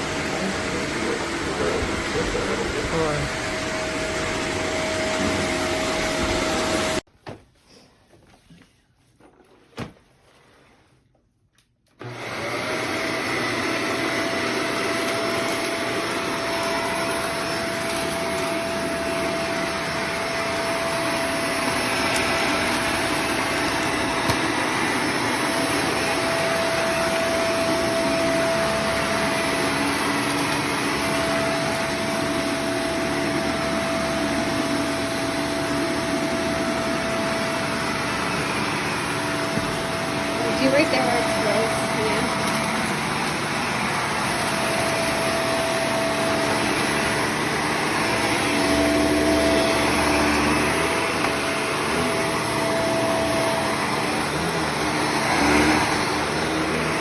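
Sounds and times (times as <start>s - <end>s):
vacuum cleaner running: 0.0s - 7.1s, 12.0s - 57.0s.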